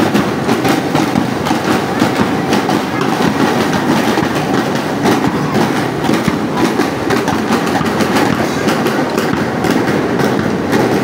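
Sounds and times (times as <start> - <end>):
crowd noise: 0.0 - 11.0.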